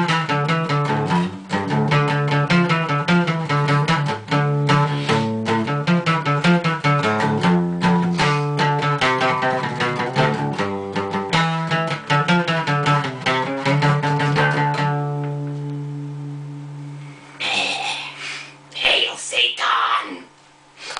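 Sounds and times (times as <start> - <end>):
plucked guitar notes: 0.0 - 17.3.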